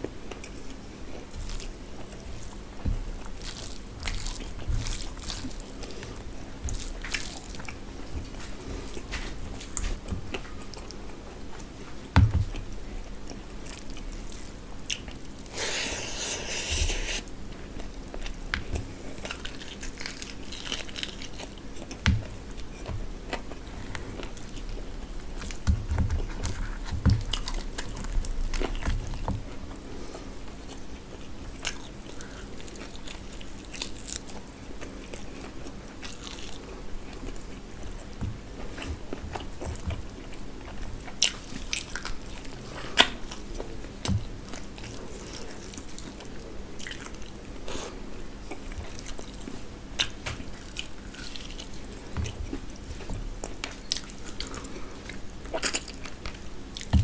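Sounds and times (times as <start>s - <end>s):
wet chewing and lip-smacking: 0.0s - 29.8s, 30.4s - 57.0s.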